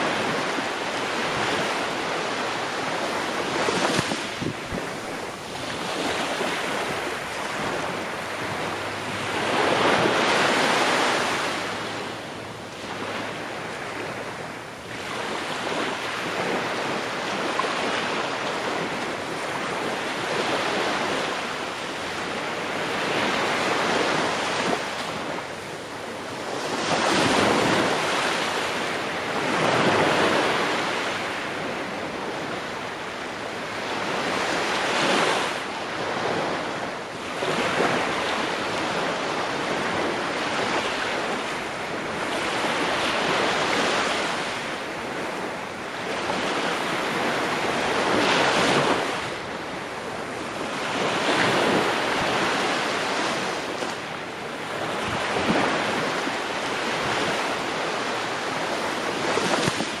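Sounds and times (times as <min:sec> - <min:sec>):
ocean waves breaking on shore: 0:00.0 - 1:00.0.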